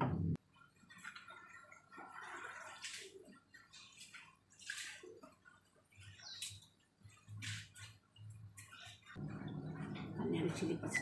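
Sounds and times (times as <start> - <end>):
water splashing and dripping: 0.3 - 11.0.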